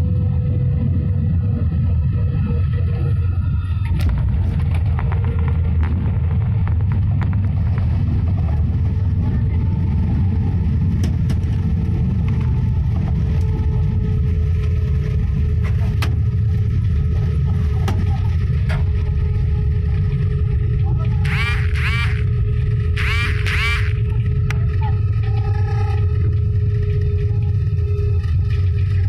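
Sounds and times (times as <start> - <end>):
airplane rolling on runway rumble: 0.0 - 29.0
faint steady hum: 0.0 - 29.0.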